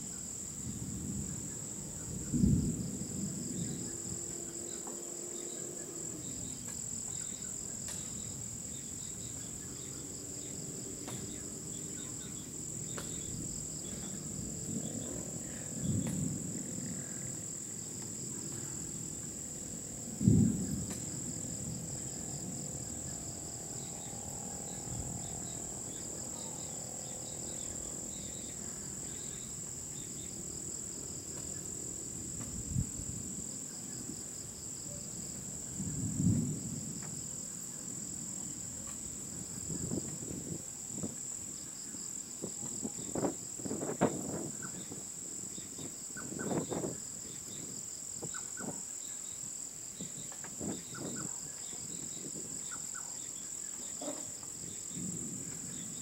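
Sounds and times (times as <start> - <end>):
crickets chirring: 0.0 - 56.0
pulsing insect trill: 0.0 - 56.0.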